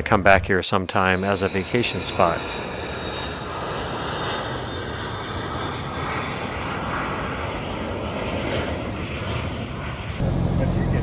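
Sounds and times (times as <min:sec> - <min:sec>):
propeller airplane engine drone: 0:00.0 - 0:11.0.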